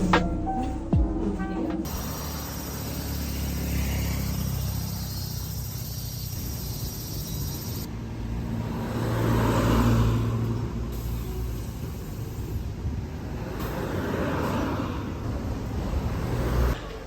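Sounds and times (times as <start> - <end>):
cars passing: 0.0 - 17.0
traffic rumble: 0.0 - 17.0.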